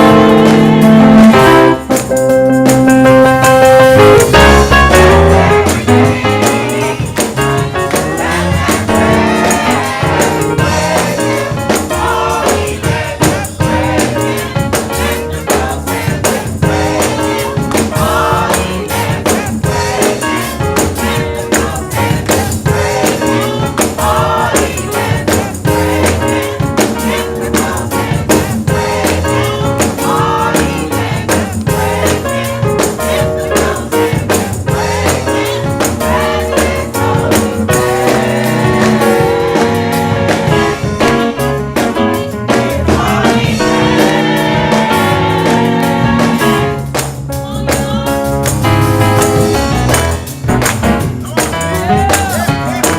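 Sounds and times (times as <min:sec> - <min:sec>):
choir singing over a band: 0:00.0 - 0:01.9, 0:03.6 - 0:47.0
tambourine: 0:00.0 - 0:52.9.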